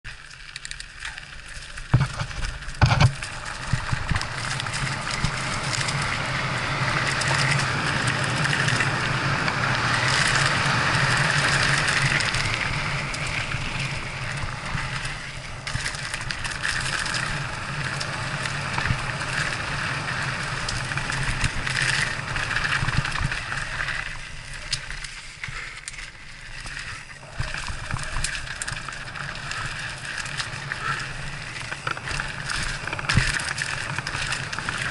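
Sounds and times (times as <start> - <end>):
bike rattling: 0.0 - 34.9
bike tyres rolling on dirt: 0.0 - 34.9.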